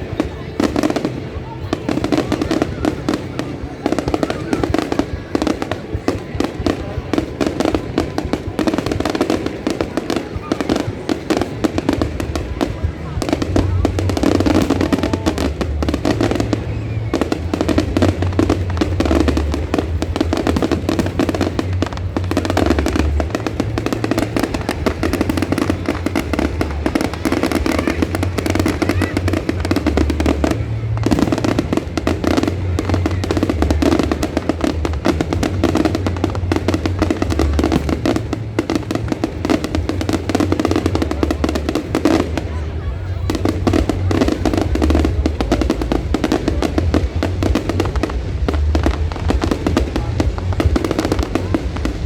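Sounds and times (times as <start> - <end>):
fireworks crackling and banging: 0.0 - 52.0.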